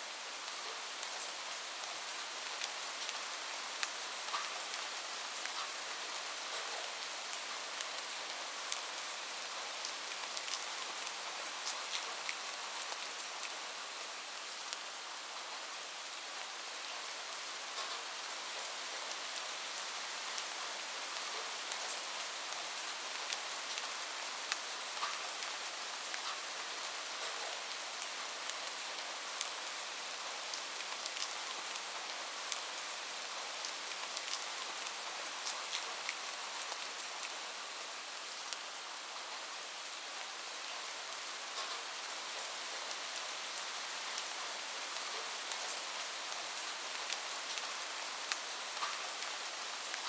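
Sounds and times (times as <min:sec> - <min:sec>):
rain on a roof: 0:00.0 - 0:50.0.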